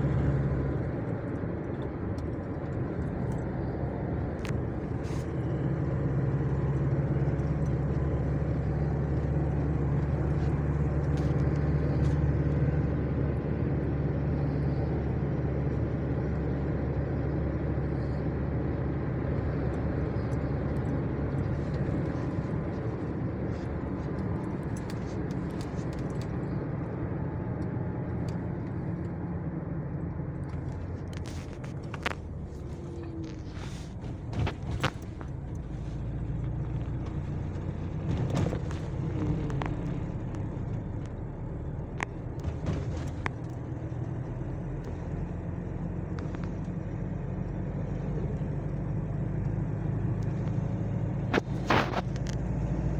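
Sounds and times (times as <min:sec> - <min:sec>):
road noise: 0:00.0 - 0:52.9
vehicle engine running: 0:00.0 - 0:52.9.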